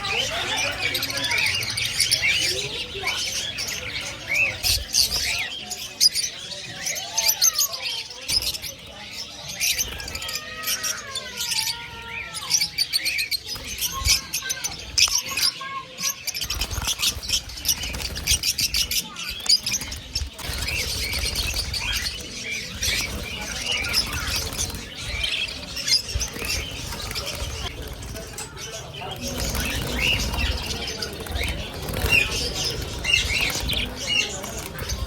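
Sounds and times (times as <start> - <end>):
caged birds twittering: 0.0 - 35.0.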